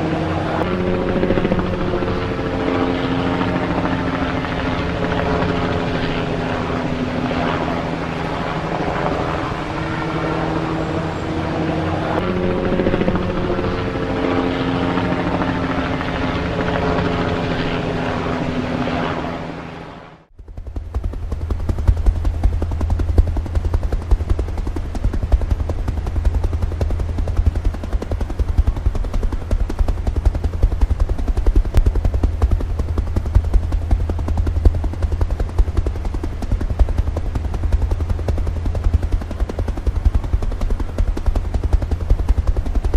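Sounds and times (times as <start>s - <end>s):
heavy low rotor beat: 0.0s - 19.4s, 20.4s - 42.9s
helicopter engine whine: 0.0s - 42.9s.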